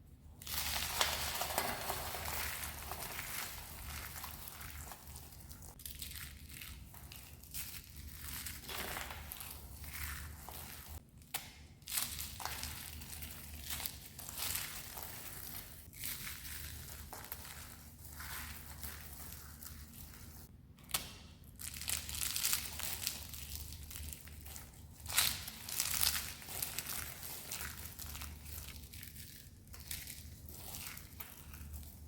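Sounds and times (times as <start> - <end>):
dried soap crunching: 0.4 - 32.0.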